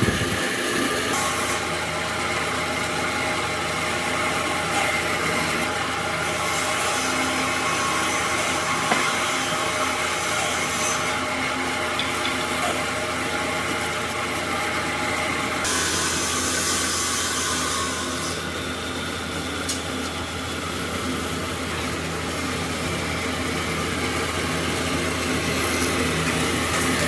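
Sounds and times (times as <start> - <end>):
electric power tool running: 0.0 - 27.0.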